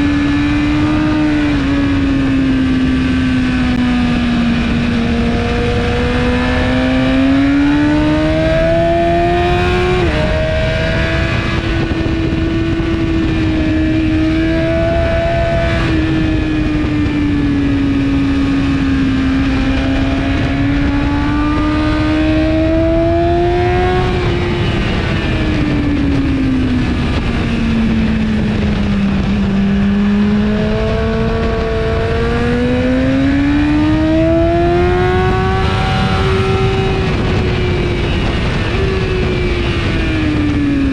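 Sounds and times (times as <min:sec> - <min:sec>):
motorcycle engine accelerating: 0:00.0 - 0:40.9
wind rush: 0:00.0 - 0:40.9.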